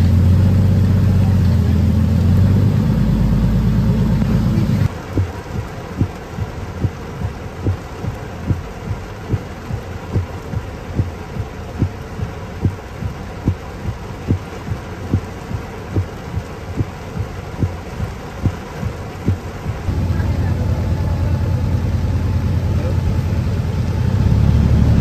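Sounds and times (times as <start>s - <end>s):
regular low thump: 0.0s - 23.8s
heavy rain on a car: 0.0s - 25.0s.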